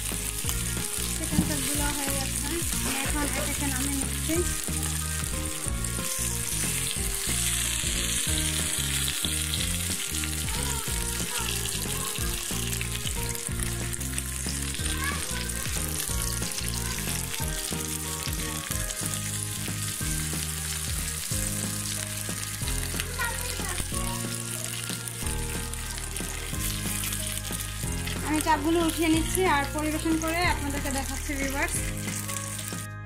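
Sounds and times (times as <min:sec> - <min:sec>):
chicken sizzling in oil: 0:00.0 - 0:32.9.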